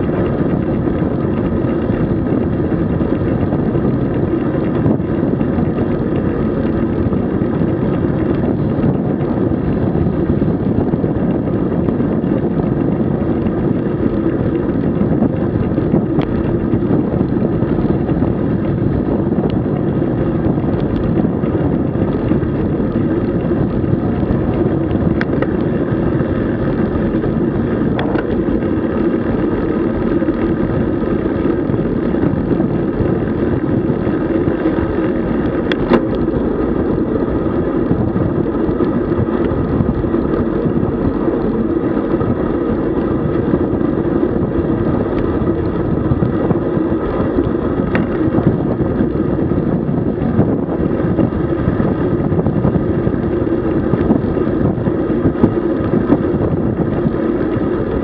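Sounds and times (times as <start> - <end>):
bicycle road noise: 0.0 - 58.0
rushing wind: 0.0 - 58.0.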